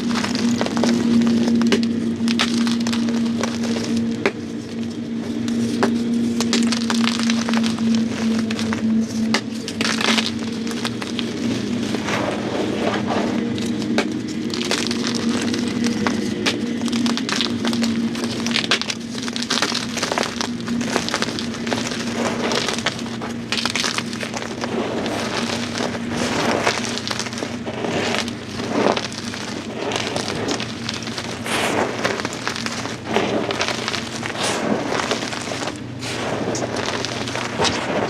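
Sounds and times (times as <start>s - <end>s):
chalk crackling and crumbling: 0.0s - 38.0s.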